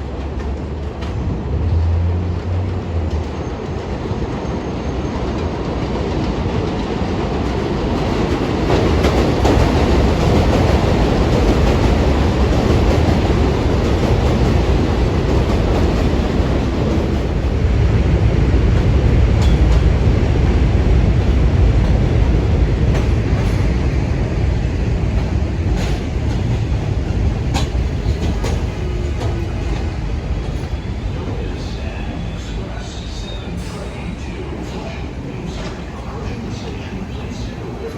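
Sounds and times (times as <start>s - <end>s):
subway train rumbling: 0.0s - 37.9s.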